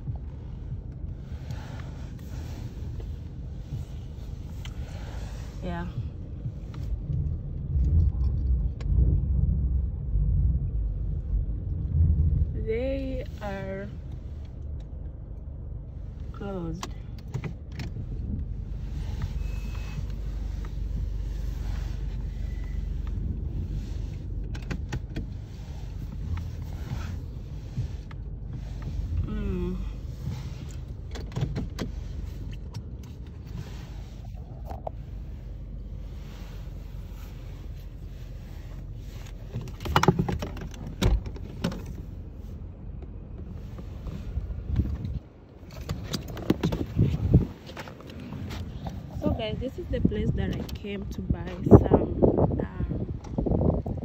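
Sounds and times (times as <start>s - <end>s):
car rumble from inside cabin: 0.0s - 54.0s.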